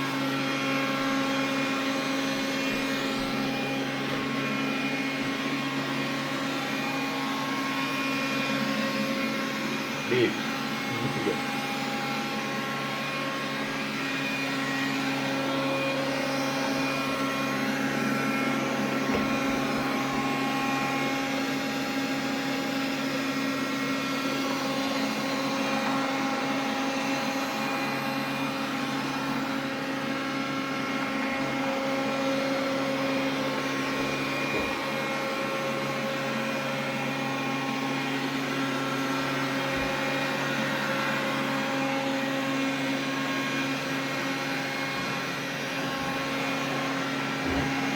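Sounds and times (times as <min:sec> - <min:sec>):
vacuum cleaner motor hum: 0:00.0 - 0:47.9.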